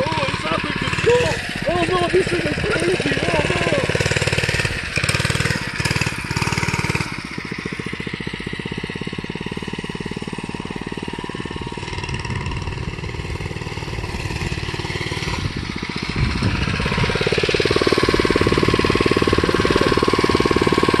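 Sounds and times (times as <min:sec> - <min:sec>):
mini bike engine putter: 0:00.0 - 0:21.0.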